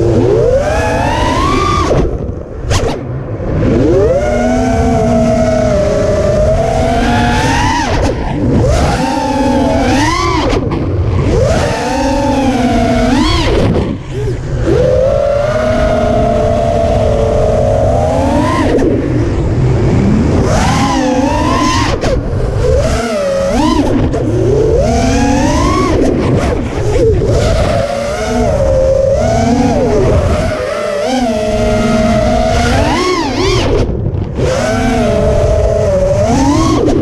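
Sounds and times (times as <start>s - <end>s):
drone motors whining: 0.0s - 37.0s
wind rushing: 0.0s - 37.0s.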